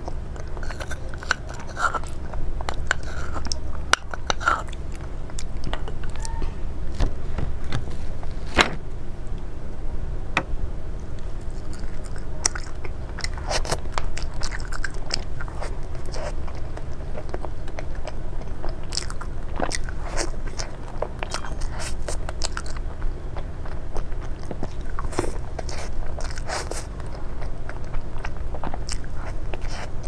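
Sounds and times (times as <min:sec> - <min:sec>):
person chewing crunchy food: 0:00.0 - 0:06.3, 0:11.2 - 0:30.0
steady low hum: 0:00.0 - 0:30.0.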